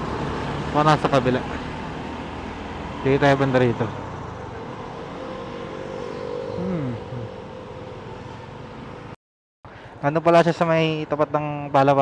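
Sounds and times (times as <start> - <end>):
traffic and road noise: 0.0 - 12.0.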